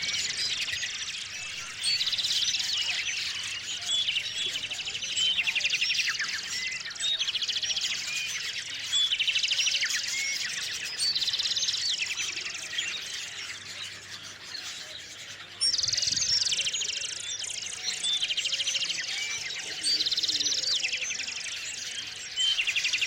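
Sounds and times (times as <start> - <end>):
songbirds trilling and chirping: 0.0 - 23.0.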